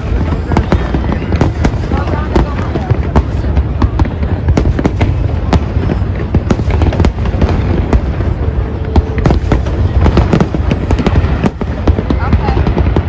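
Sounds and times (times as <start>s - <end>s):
continuous low rumble: 0.0s - 13.0s
fireworks bangs and crackles: 0.0s - 13.0s.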